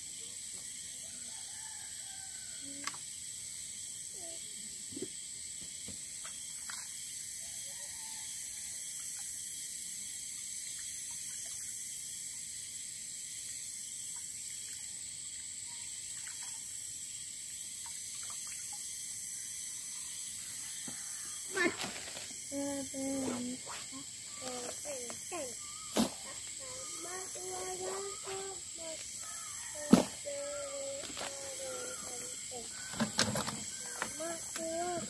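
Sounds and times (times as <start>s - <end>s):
high-pitched background hiss: 0.0s - 35.0s.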